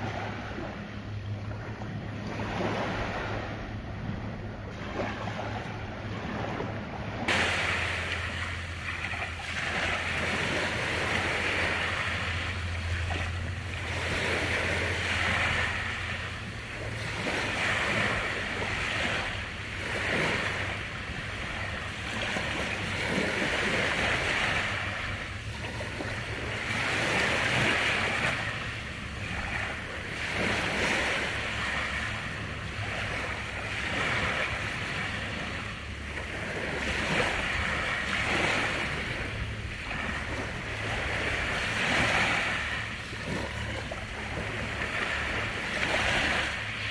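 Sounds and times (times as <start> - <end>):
low steady rumble: 0.0 - 46.9
sea waves washing onto beach: 0.0 - 46.9.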